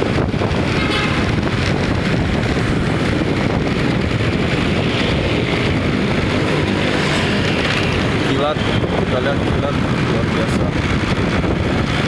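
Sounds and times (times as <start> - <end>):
road traffic: 0.0 - 12.0
wind rumble on microphone: 0.0 - 12.0.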